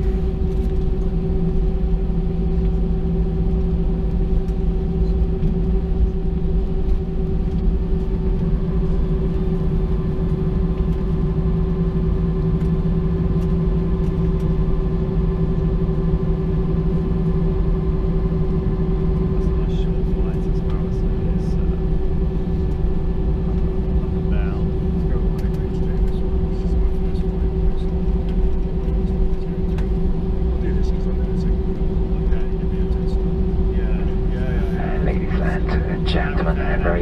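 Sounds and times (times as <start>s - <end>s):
airplane cabin low rumble: 0.0s - 37.0s
jet engines humming at idle: 0.0s - 37.0s.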